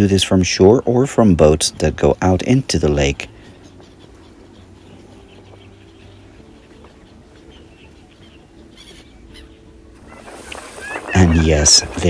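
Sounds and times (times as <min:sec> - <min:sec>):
gulls calling: 0:00.0 - 0:12.0
low background noise: 0:00.0 - 0:12.0.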